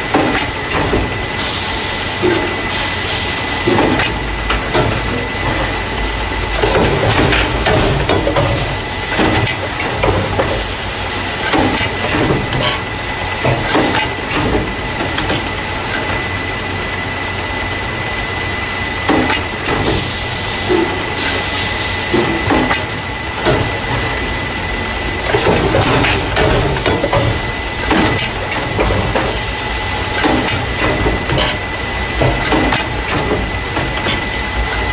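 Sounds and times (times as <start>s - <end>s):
machine clacking and knocking: 0.0s - 16.4s, 18.9s - 34.9s
machine hiss: 0.1s - 16.5s, 18.2s - 34.9s.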